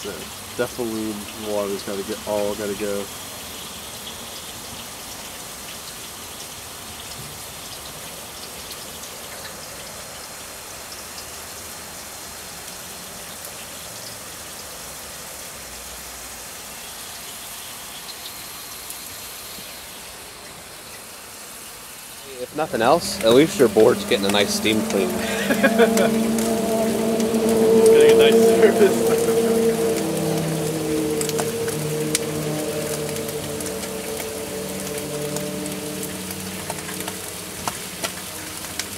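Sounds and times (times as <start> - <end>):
water boiling with bubbling hiss: 0.0 - 38.9.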